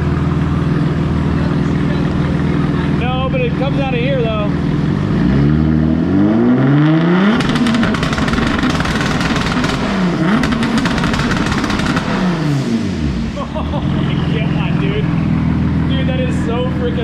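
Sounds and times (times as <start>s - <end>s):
car engine revving at full throttle: 0.0s - 17.0s.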